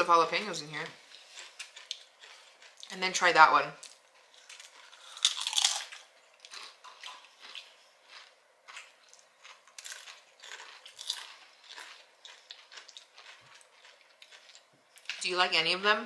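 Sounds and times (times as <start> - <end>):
chewing crunches: 1.0 - 3.0, 3.8 - 15.3
chip crunching bite: 1.2 - 2.9, 3.8 - 15.2.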